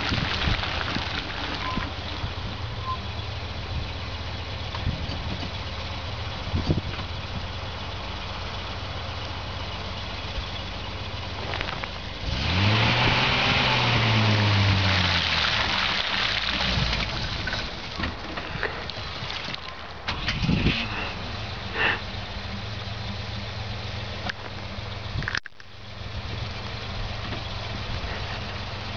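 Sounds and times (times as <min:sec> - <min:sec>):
truck engine revving with rushing: 0:00.0 - 0:25.2, 0:26.0 - 0:28.9
truck engine running: 0:00.0 - 0:28.9.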